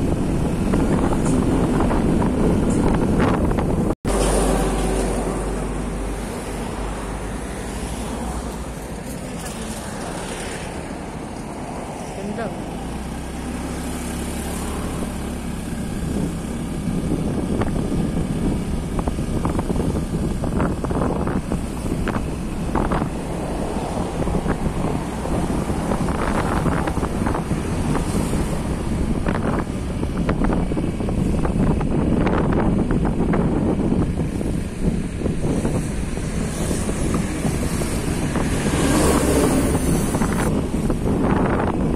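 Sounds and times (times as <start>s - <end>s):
slowly moving vehicle rumble: 0.0s - 41.9s
wind buffeting microphone: 0.0s - 41.9s.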